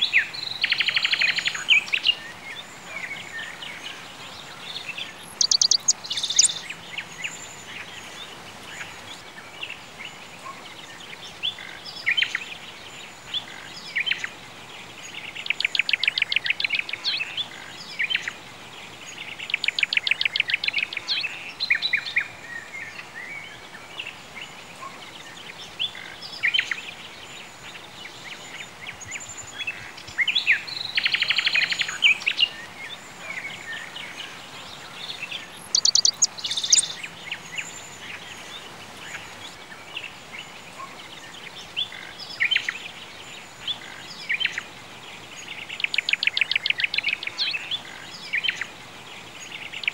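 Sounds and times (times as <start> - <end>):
birds chirping and trilling: 0.0 - 49.9
steady background hiss: 0.0 - 49.9.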